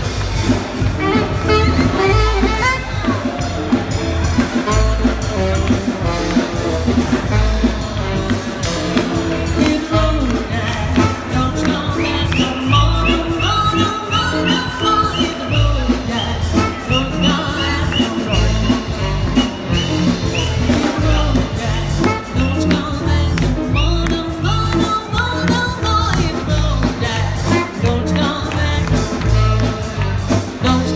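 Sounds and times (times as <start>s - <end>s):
live swing band playing: 0.0s - 30.9s
saxophone: 0.0s - 30.9s.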